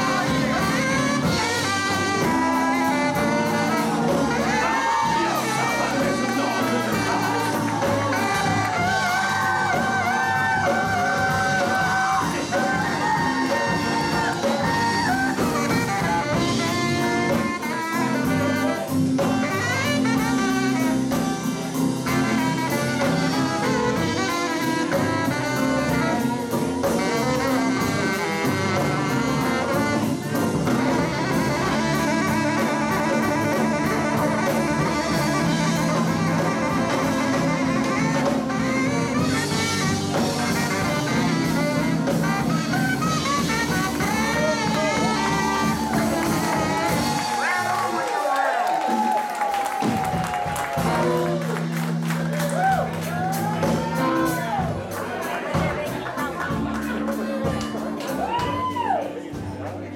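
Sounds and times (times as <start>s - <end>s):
electric guitar: 0.0s - 48.1s
bass: 0.0s - 48.2s, 48.8s - 59.9s
keyboard: 0.0s - 49.0s
drum kit: 0.0s - 59.9s
saxophone: 0.0s - 59.9s.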